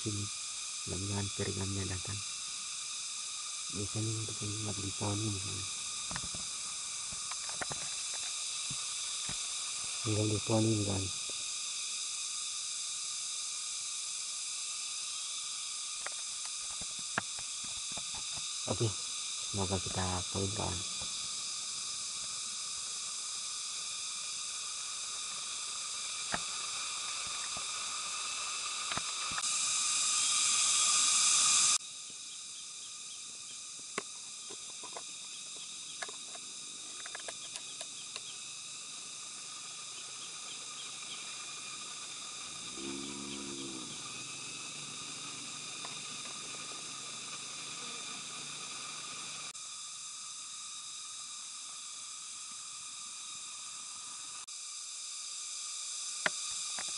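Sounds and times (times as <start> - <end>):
forest insects chorus: 0.0 - 56.9
loud insect buzz: 0.0 - 56.9.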